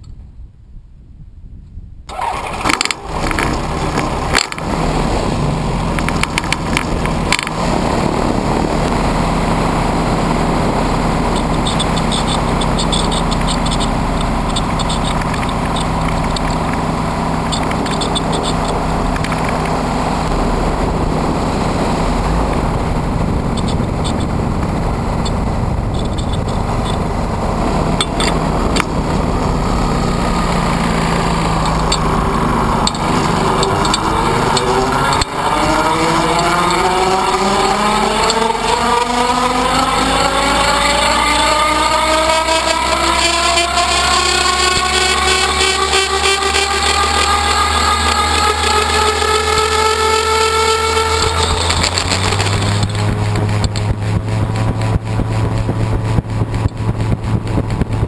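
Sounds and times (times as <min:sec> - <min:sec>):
gyrocopter engine running: 0:02.2 - 0:58.0.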